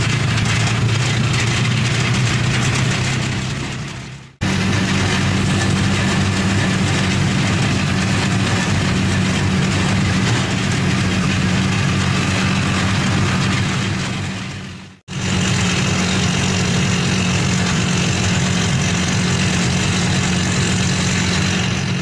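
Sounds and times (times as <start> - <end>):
road and wind noise: 0.0 - 22.0
vehicle engine running: 0.0 - 22.0.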